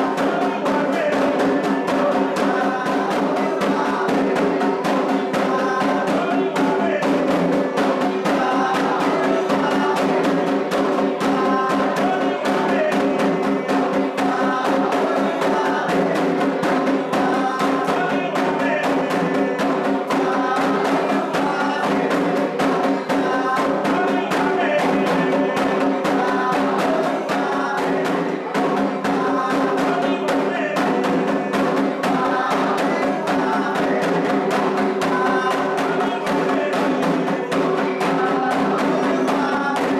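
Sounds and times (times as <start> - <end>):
group singing a chant: 0.0 - 39.9
hand drums playing fast rhythm: 0.0 - 39.9.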